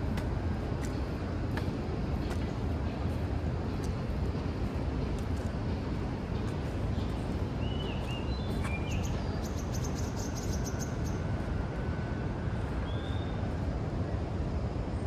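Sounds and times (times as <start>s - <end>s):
low rumble of city traffic: 0.0s - 15.0s.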